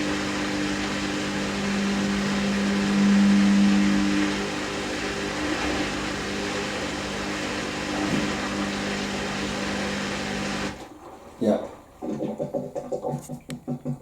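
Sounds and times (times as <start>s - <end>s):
water rushing out: 0.0s - 12.4s
drain pump humming: 0.0s - 14.0s.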